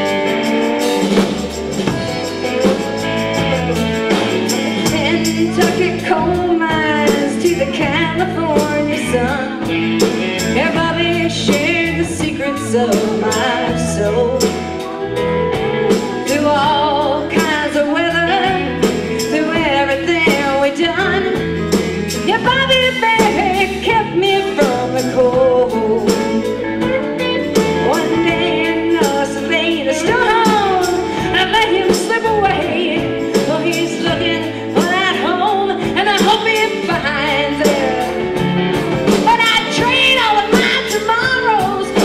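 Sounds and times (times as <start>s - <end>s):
live band music: 0.0s - 42.0s
person singing: 0.0s - 42.0s.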